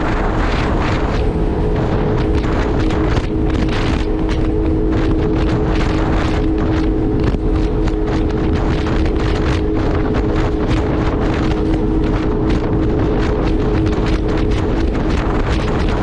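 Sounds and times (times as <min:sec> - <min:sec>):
jet ski engine whine: 0:00.0 - 0:16.0
wind buffeting microphone: 0:00.0 - 0:16.0.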